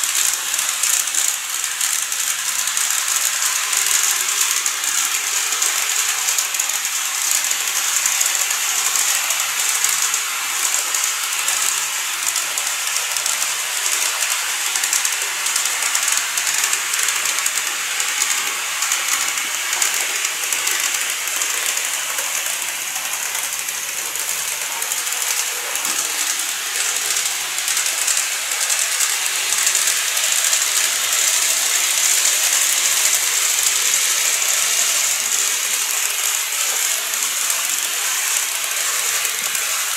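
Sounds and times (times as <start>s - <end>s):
fine rapid clicking: 0.0s - 39.9s
model train running on track: 0.0s - 39.9s.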